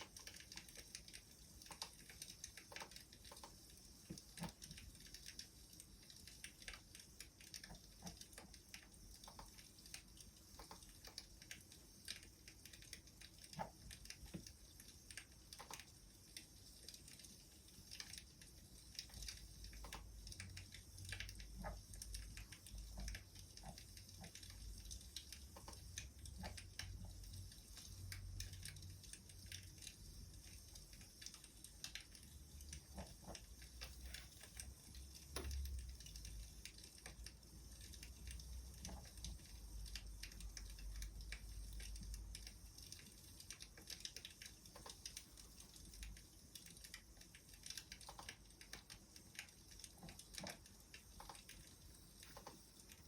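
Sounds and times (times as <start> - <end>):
faint wood fire crackling: 0.0 - 53.0
soft hiss: 0.0 - 53.0.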